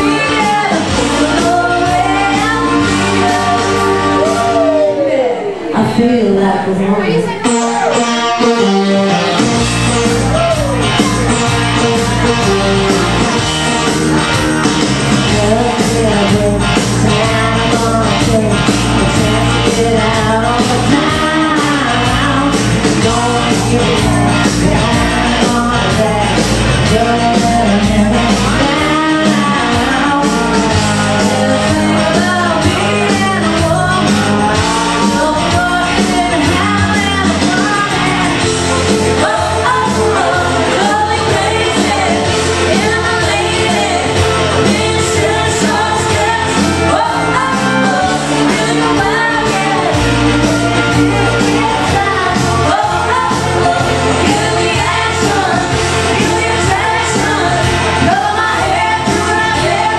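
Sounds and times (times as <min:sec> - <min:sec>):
woman singing into microphone: 0:00.0 - 0:09.2, 0:09.9 - 0:13.6, 0:15.2 - 0:59.9
backing track with steady beat: 0:00.0 - 0:59.9.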